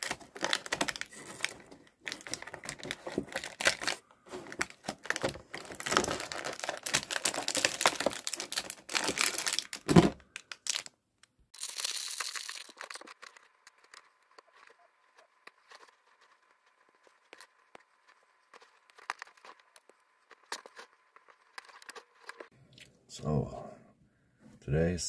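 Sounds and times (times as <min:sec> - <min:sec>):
plastic bag crinkling: 0:00.0 - 0:22.5.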